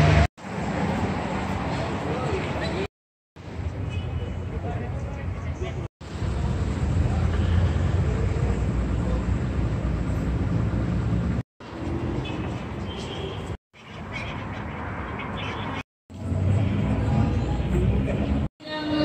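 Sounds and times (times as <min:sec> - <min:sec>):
city ambience low rumble: 0:03.4 - 0:19.0.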